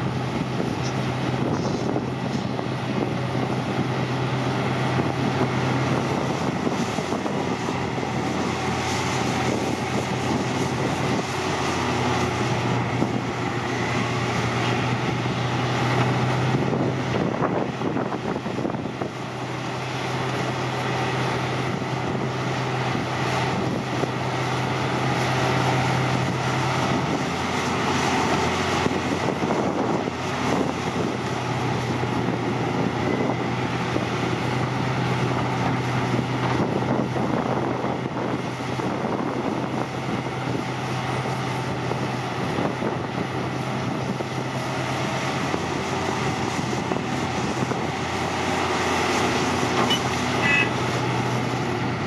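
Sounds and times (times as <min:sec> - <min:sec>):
excavator diesel engine droning: 0:00.0 - 0:52.0.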